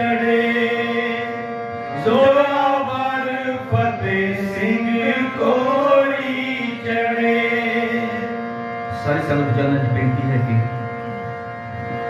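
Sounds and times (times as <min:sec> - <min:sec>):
men singing devotional chant: 0:00.0 - 0:10.7
harmonium drone: 0:00.0 - 0:12.0.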